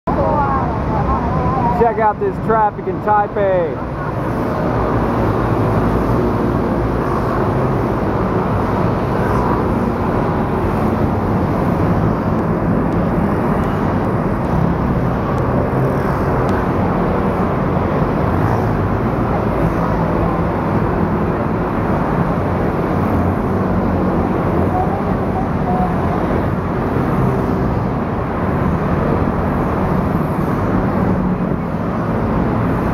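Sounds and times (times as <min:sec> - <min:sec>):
scooters and motorcycles passing: 0:00.1 - 0:32.9.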